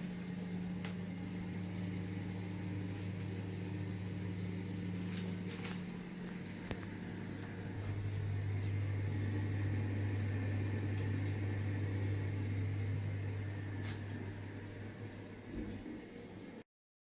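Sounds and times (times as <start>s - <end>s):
washing machine motor humming: 0.0s - 16.6s.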